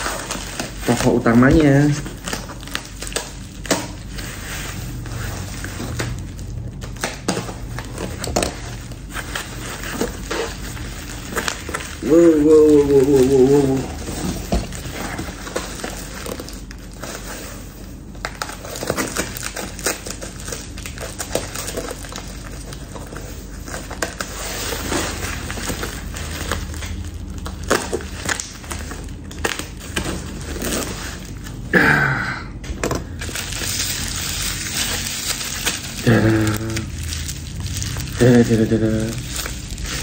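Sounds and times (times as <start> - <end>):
packing sheet and bubble wrap crinkling: 0.0 - 31.7, 33.0 - 40.0.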